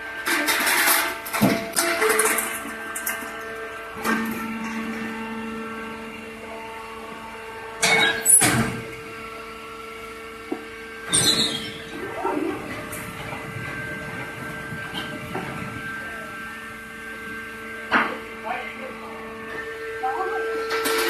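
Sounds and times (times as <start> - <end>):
baler motor and pump hum: 0.0 - 21.0.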